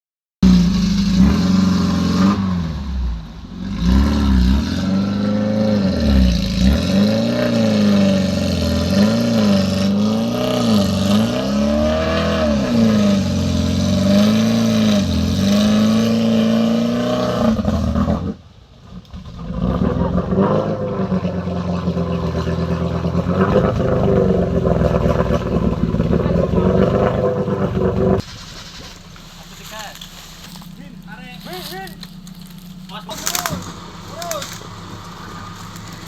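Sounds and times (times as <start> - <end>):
car engine revving off-road: 0.4 - 36.0.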